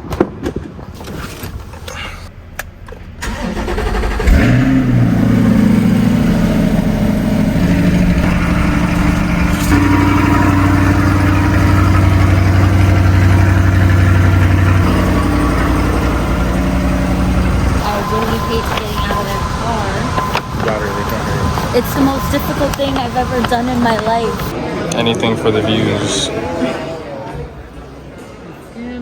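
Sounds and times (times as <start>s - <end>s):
car engine starting and running: 0.9s - 28.0s.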